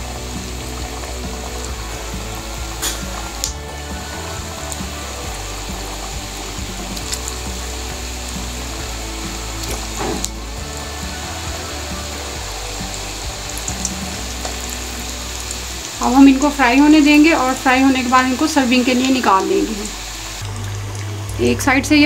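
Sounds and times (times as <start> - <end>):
oil sizzling and bubbling: 0.0 - 22.0.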